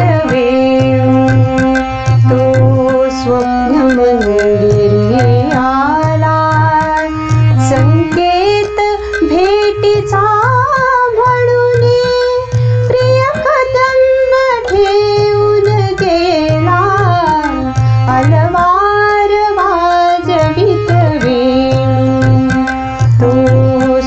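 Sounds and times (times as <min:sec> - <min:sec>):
woman singing with vibrato: 0:00.0 - 0:24.0.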